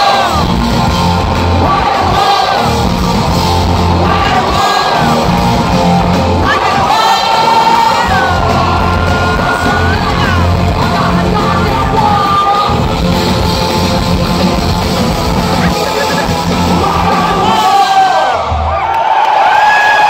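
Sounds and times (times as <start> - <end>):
voices singing and yelling: 0.0 - 14.4, 15.3 - 18.7
hard rock band playing live: 0.0 - 18.6.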